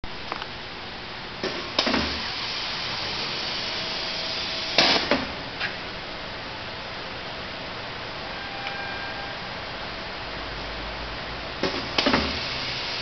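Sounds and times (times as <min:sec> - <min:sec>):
mechanical hiss and hum: 0:00.0 - 0:13.0.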